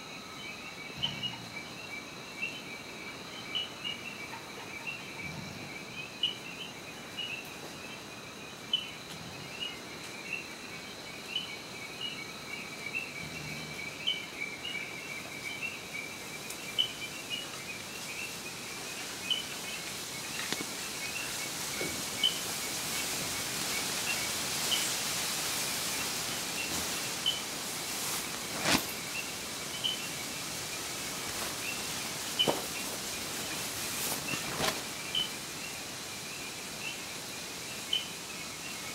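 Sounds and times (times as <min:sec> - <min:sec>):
frogs chirping: 0:00.0 - 0:38.9.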